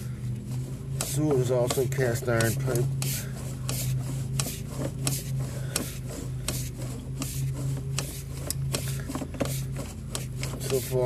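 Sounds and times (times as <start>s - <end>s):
low electrical hum: 0.0s - 11.0s
cable scraping inside drain pipe: 0.3s - 11.0s.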